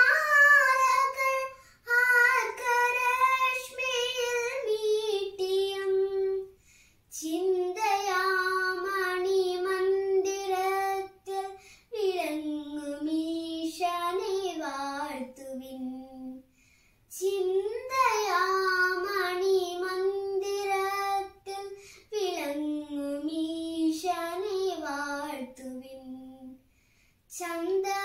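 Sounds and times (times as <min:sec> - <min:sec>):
girl singing: 0:00.0 - 0:16.5, 0:17.1 - 0:26.7, 0:27.3 - 0:28.0.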